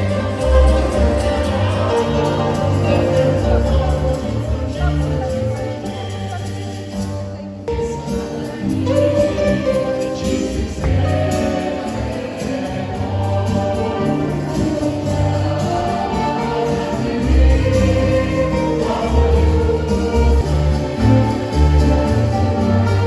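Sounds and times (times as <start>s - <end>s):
choir singing with accompaniment: 0.0s - 23.0s.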